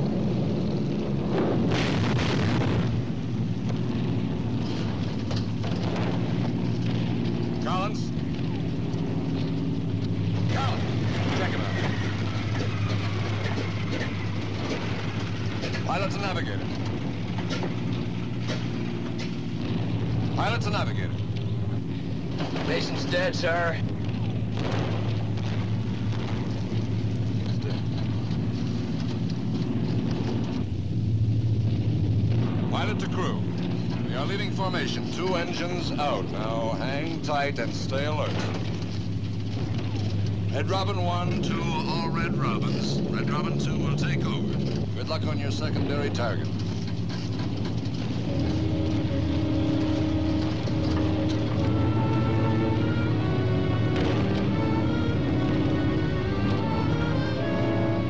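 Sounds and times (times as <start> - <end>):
explosion blasts: 0.0 - 58.0
piston engines droning: 0.0 - 58.0.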